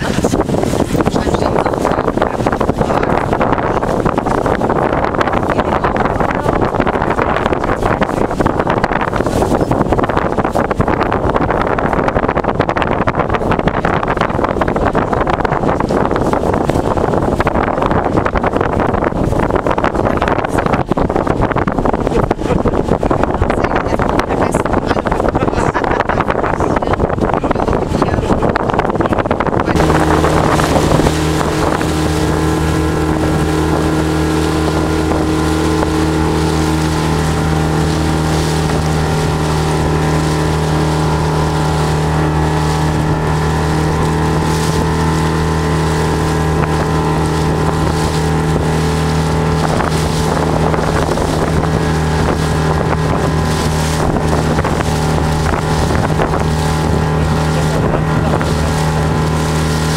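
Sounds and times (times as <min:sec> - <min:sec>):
outboard motor running: 0:00.0 - 0:59.9
wind and water hissing: 0:00.0 - 0:59.9.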